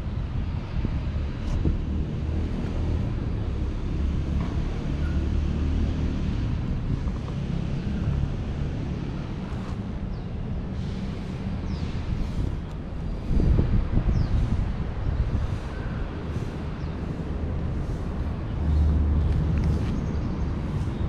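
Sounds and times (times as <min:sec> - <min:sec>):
wind buffeting microphone: 0:00.0 - 0:04.4, 0:06.2 - 0:21.0.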